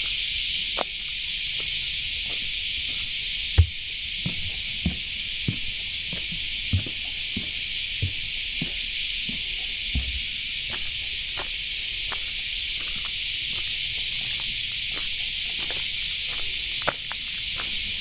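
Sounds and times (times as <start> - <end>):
high-pitched insect chorus: 0.0 - 18.0
faint footsteps on a path: 0.7 - 18.0.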